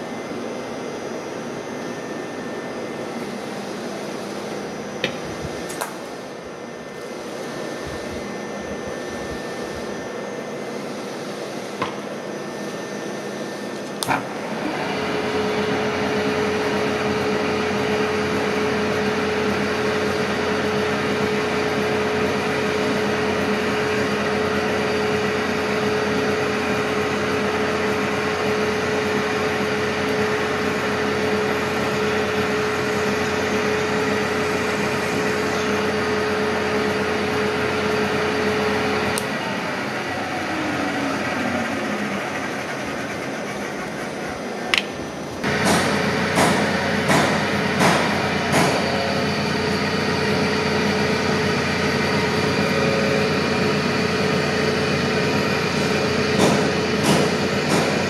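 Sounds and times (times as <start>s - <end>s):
steady hum tone: 0.0s - 55.6s
milling machine humming: 0.0s - 58.0s.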